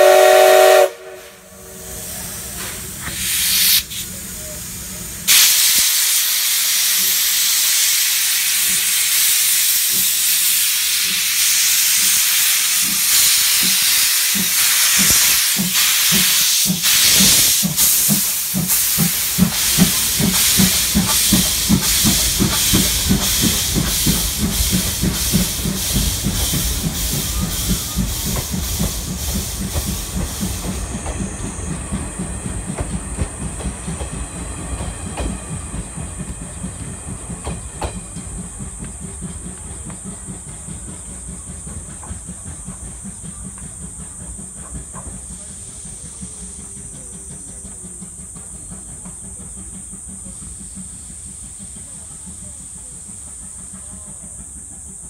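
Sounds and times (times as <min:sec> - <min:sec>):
steam hissing: 0:00.0 - 0:55.0
steam locomotive exhaust chuffs: 0:00.0 - 0:55.0
train wheels clattering: 0:08.5 - 0:55.0.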